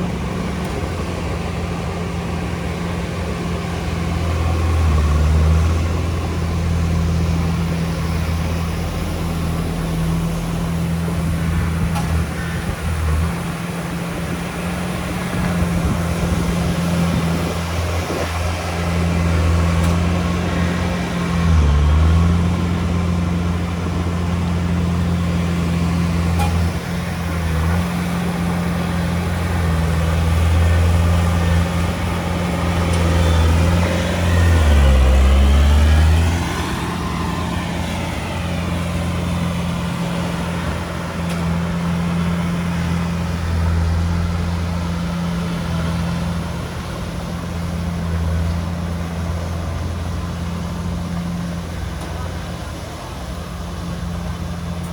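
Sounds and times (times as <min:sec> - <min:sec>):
bulldozer diesel engine working: 0:00.0 - 0:54.9.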